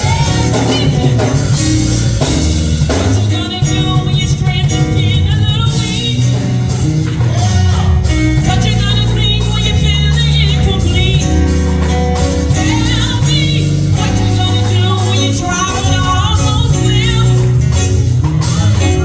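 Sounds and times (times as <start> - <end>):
band with bass and drums: 0.0 - 19.0
gospel singing: 0.0 - 19.0.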